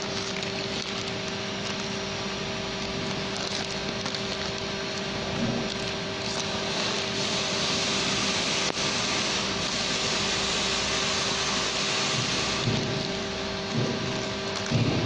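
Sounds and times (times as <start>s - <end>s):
packaging machinery drone: 0.0s - 15.0s.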